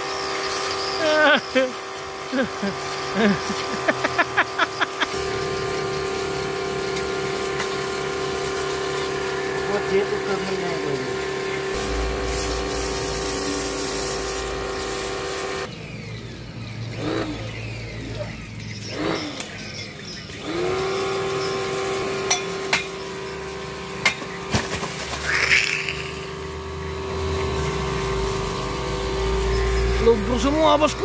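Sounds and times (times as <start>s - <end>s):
motor humming: 0.0s - 24.5s, 25.1s - 31.0s.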